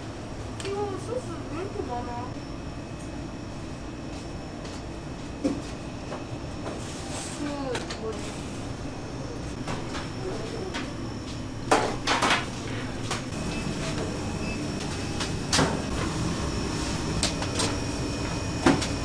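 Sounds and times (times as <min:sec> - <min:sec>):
equipment hum: 0:00.0 - 0:19.0.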